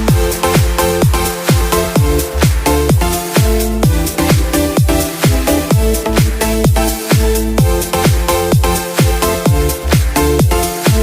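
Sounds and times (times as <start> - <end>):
electronic dance music: 0.0 - 11.0
kick drum: 0.0 - 11.0
synth chords: 0.0 - 11.0.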